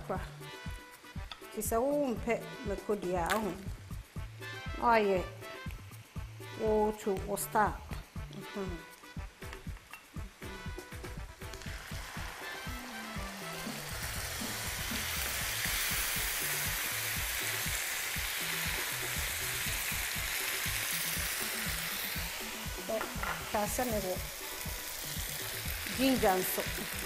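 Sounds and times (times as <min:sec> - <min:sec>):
tomato puree sizzling in oil: 0:00.5 - 0:27.0.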